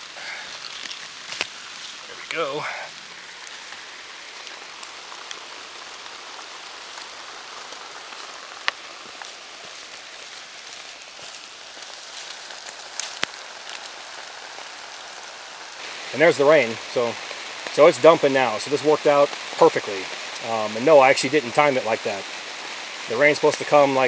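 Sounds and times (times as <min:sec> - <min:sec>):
rain falling in woods: 0:00.0 - 0:24.0.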